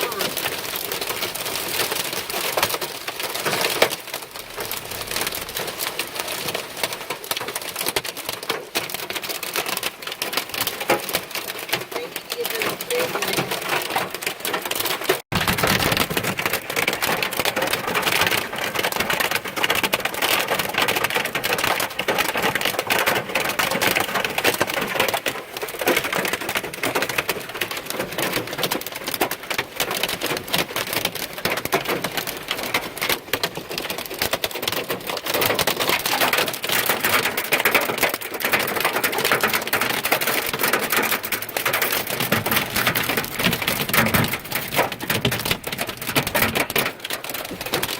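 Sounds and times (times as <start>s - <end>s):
heavy rain on car roof: 0.0s - 47.9s.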